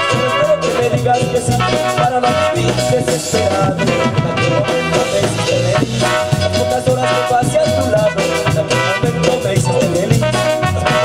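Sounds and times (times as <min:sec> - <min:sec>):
drum beat: 0:00.0 - 0:11.0
electric bass: 0:00.0 - 0:11.0
electronic keyboard melody: 0:00.0 - 0:11.0.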